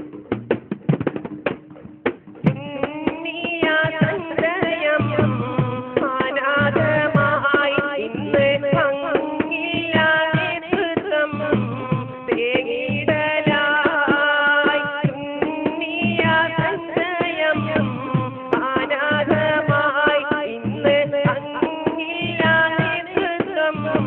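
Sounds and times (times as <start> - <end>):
hand drums beat: 0.0 - 24.0
man singing into a microphone: 2.6 - 24.0.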